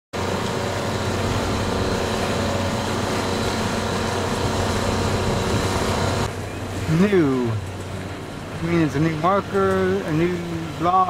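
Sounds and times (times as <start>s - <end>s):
wind: 0.1s - 11.0s
boat motor hum: 0.2s - 11.0s
water rushing: 0.2s - 11.0s.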